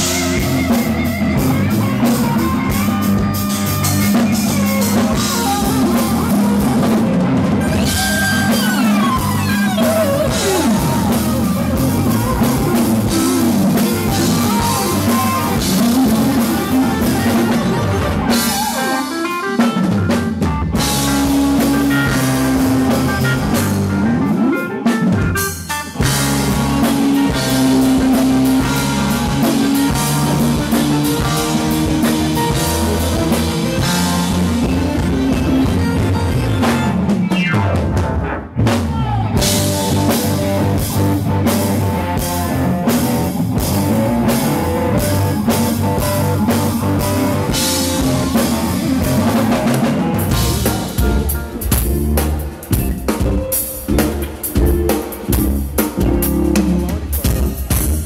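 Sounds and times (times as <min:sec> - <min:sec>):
rock music with drums and guitar: 0:00.0 - 0:58.0.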